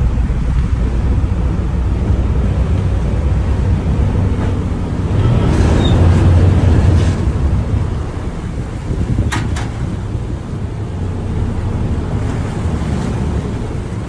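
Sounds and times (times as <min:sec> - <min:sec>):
churning wake: 0:00.0 - 0:14.0
ferry engines droning: 0:00.0 - 0:14.0
wind on microphone: 0:00.0 - 0:14.0.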